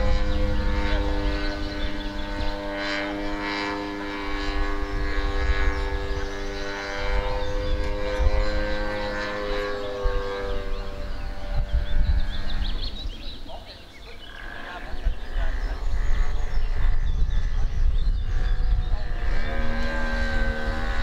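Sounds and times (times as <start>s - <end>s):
model airplane engine droning: 0.0s - 21.0s.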